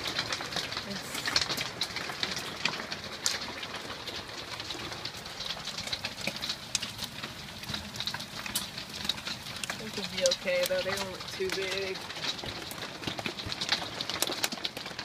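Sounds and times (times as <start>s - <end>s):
hailstones hitting metal roof: 0.0s - 15.0s
rain hissing on metal roof: 0.0s - 15.0s.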